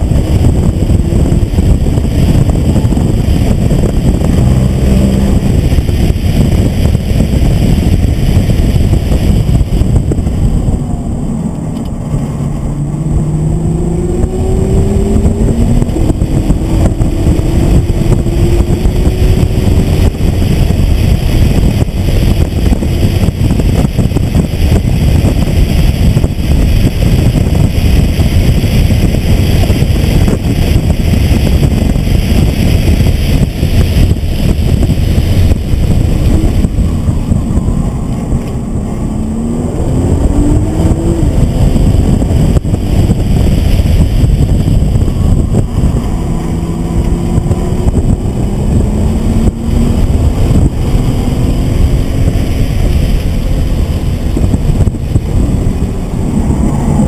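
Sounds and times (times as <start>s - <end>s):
car engine accelerating: 0.0s - 57.0s
road noise: 0.0s - 57.0s
wind noise: 0.0s - 57.0s.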